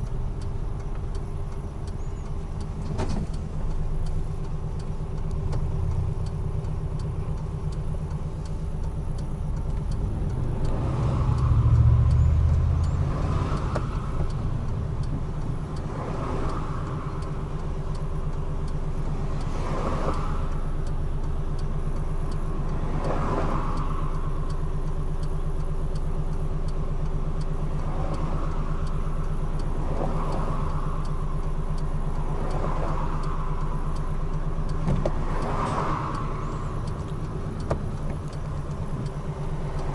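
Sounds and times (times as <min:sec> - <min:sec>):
road noise: 0:00.0 - 0:39.9
truck diesel engine droning: 0:00.0 - 0:39.9.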